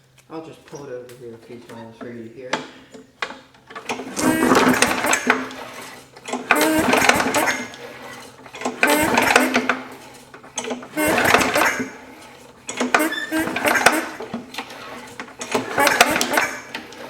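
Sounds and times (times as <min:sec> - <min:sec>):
lawn mower engine cranking: 0:01.4 - 0:17.0
recoil starter clatter: 0:01.4 - 0:17.0.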